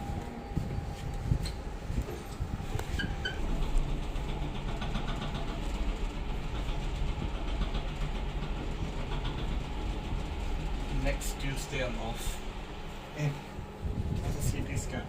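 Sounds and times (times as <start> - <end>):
elevator low rumble: 0.0 - 15.0
faint rattling: 2.2 - 15.0.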